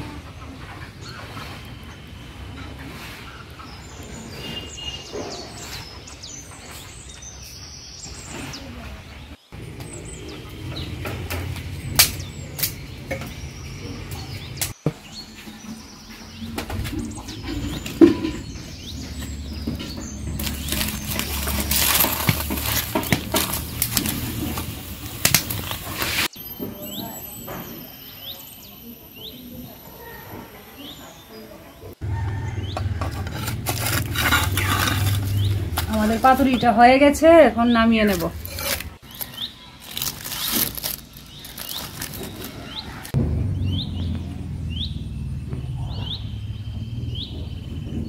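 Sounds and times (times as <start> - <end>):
birds chirping: 0.0 - 48.0
outdoor background noise: 0.0 - 48.0.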